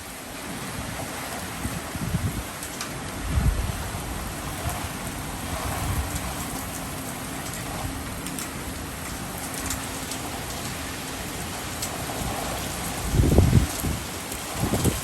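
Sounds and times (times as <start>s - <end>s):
heavy rain: 0.0s - 15.0s
wind buffeting microphone: 0.0s - 15.0s
wind howling: 0.0s - 15.0s.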